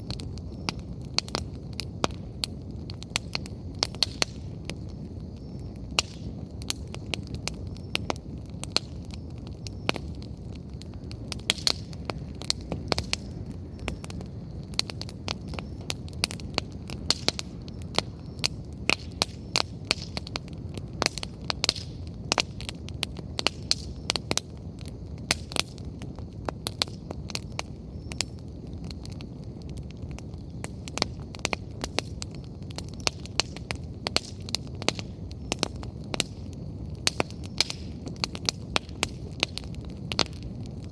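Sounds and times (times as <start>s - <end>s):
firewood crackling and popping: 0.0s - 40.9s
low rumble of flames: 0.0s - 40.9s.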